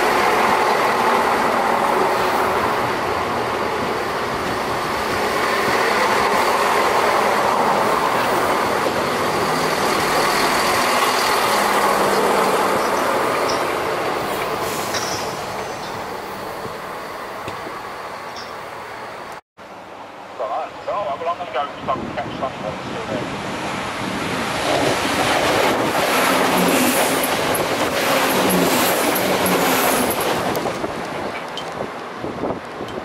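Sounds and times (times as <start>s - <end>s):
diesel train passing: 0.0s - 33.0s.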